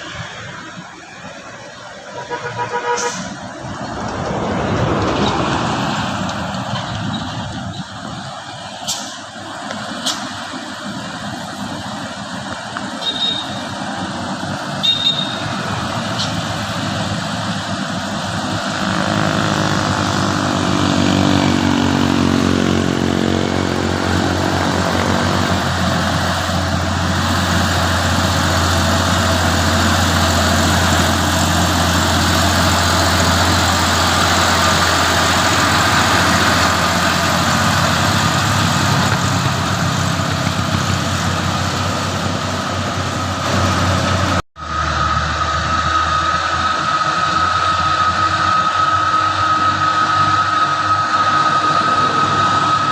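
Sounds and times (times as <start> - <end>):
diesel truck engine pulling uphill: 0.0 - 52.9.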